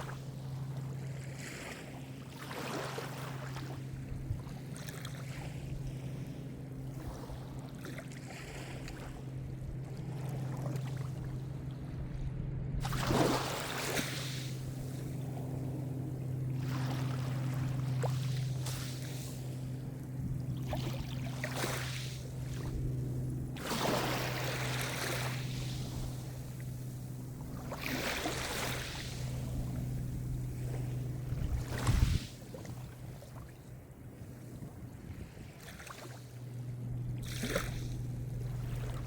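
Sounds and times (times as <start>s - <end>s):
small waves washing in: 0.0s - 12.2s, 12.8s - 39.0s
steady low hum: 0.0s - 39.0s.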